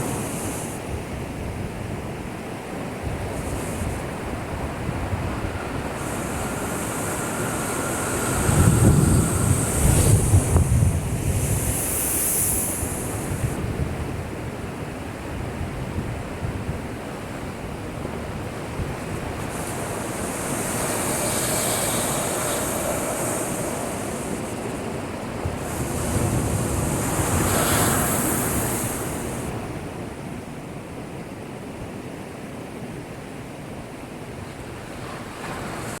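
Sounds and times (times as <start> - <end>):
heavy surf breaking: 1.9 - 30.4, 34.5 - 36.0.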